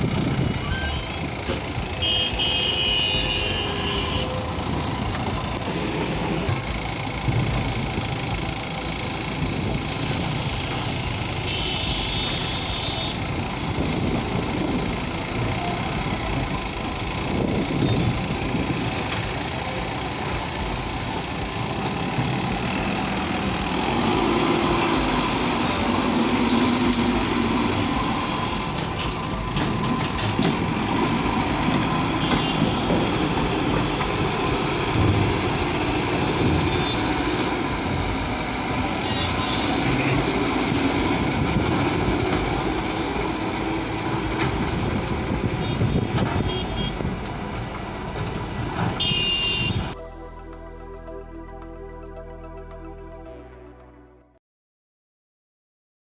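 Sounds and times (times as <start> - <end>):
sharp ticks and clanks: 0.0 - 49.1
diesel engine running: 0.0 - 53.6.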